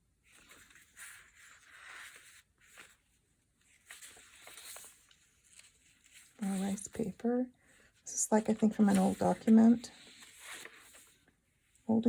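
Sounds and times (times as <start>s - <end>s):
paper pages rustling: 0.2s - 11.7s.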